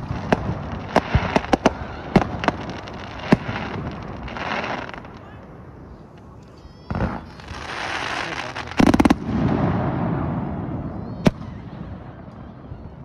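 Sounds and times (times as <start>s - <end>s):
fireworks crackling hiss: 0.0s - 12.1s
fireworks bangs: 0.0s - 13.0s.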